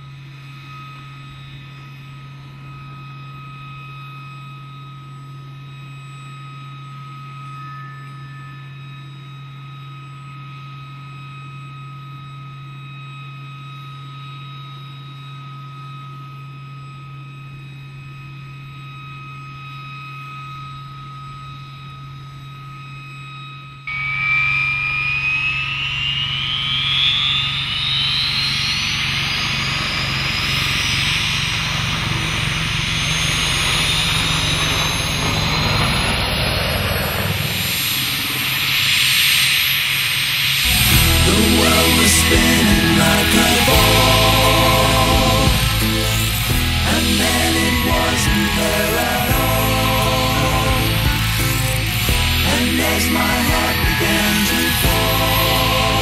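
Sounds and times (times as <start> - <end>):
helicopter turbine spooling up: 0.0 - 56.0
helicopter turbine whine: 0.0 - 56.0
low hum: 0.0 - 56.0.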